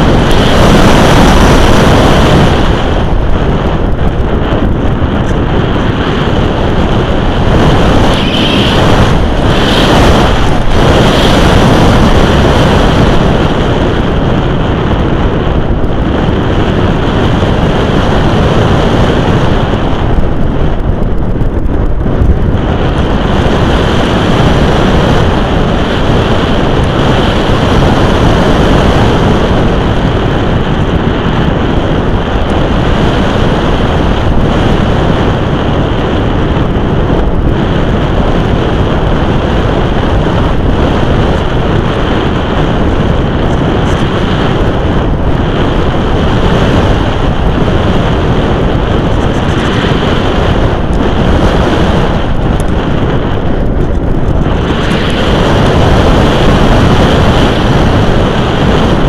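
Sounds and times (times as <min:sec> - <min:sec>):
wind rushing over camera: 0:00.0 - 0:59.0.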